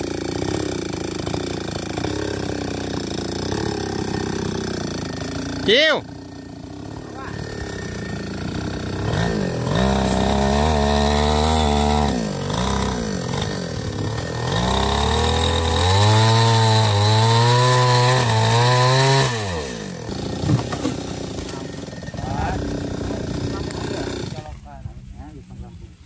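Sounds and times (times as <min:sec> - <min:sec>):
chainsaw revving: 0:00.0 - 0:24.8.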